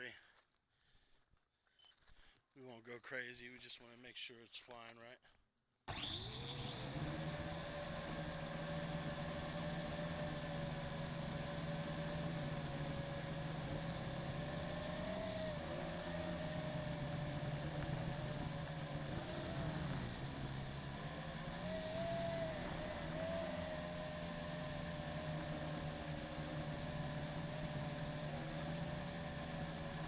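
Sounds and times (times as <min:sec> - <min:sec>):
quadcopter propellers whirring: 0:05.9 - 0:30.0.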